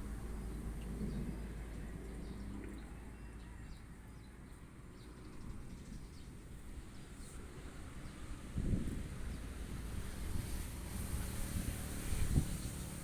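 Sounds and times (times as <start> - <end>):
wind rumble on microphone: 0.0 - 3.9, 5.0 - 13.0.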